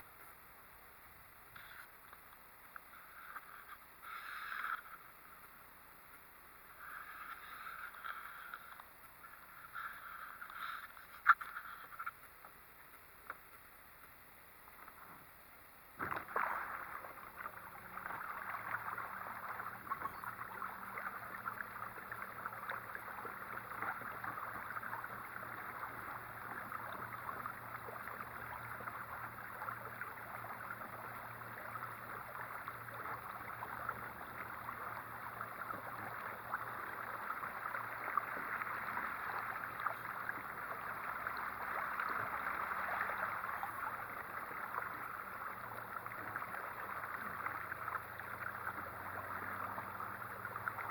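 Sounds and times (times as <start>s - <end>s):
water rushing along hull: 0.0s - 50.9s.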